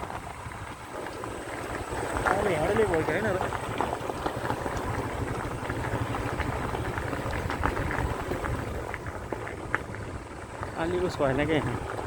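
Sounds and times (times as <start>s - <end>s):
motorcycle engine and road noise: 0.0s - 12.0s
wind on microphone: 0.0s - 12.0s.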